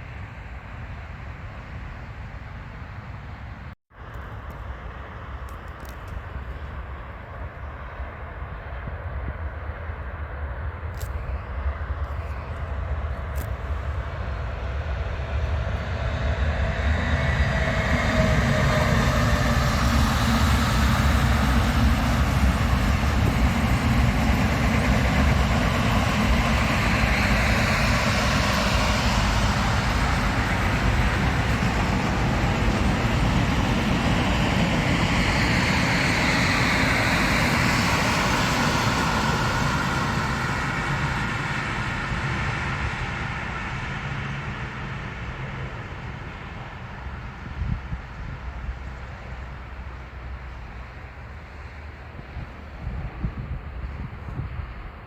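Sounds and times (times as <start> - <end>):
train wheels on rails: 10.8 - 55.0.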